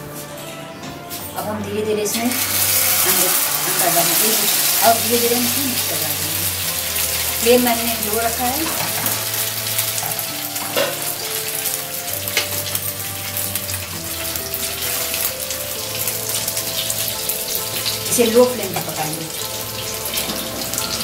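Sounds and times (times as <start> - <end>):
omelette sizzling in oil: 2.1 - 21.0.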